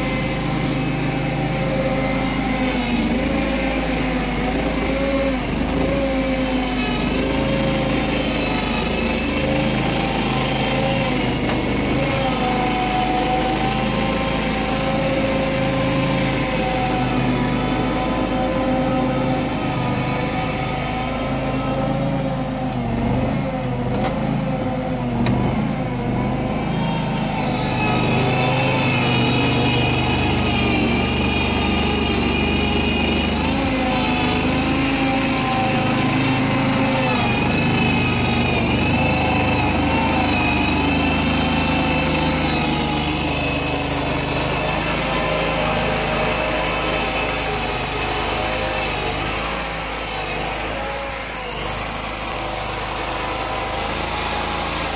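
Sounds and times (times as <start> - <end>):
small engine running under load: 0.0 - 54.9.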